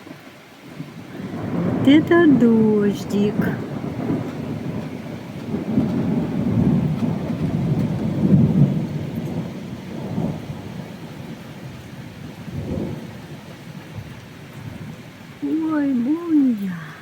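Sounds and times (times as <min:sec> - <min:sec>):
rain: 0:00.0 - 0:17.0
thunder rumbling: 0:00.7 - 0:17.0.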